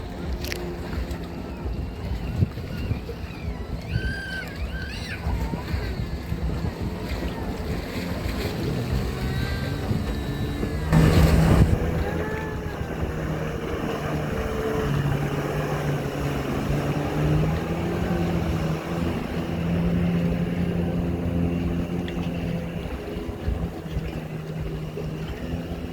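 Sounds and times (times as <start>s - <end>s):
jet ski engine running: 0.0s - 25.9s
rush of splash or wind: 1.6s - 25.9s.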